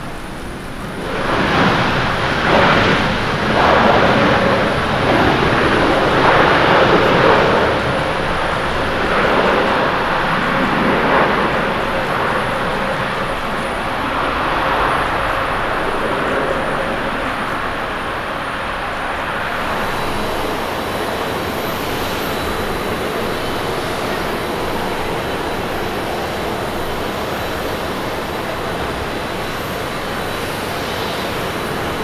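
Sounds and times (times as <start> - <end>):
jet engine noise: 0.0 - 32.0.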